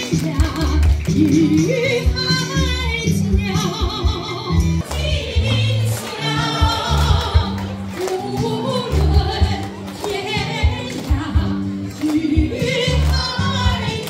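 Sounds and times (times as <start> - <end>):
instrumental accompaniment with beat: 0.0 - 14.0
women singing with vibrato: 0.0 - 14.0.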